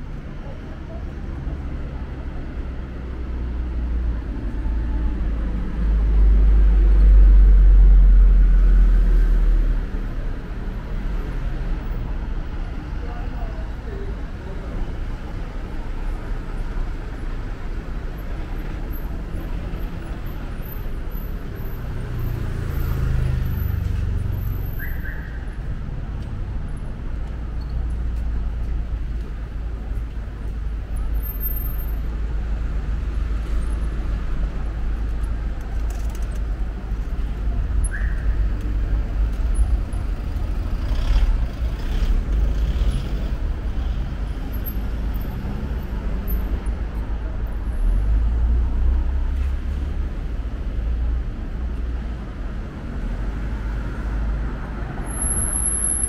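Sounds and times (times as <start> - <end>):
traffic passing with low rumble: 0.0 - 56.0.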